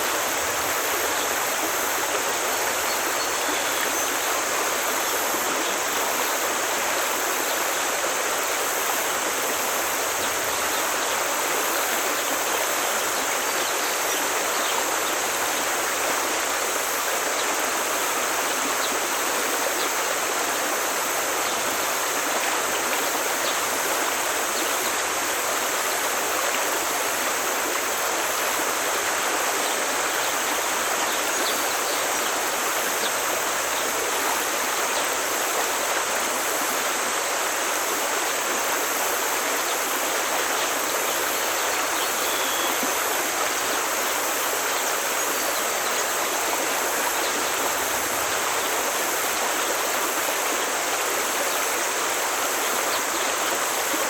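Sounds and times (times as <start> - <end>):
forest stream flowing: 0.0 - 54.0.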